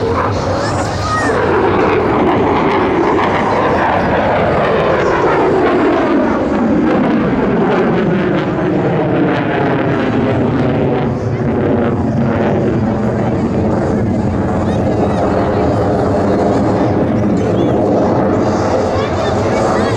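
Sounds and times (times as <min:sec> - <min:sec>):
jet engine passing: 0:00.0 - 0:19.9.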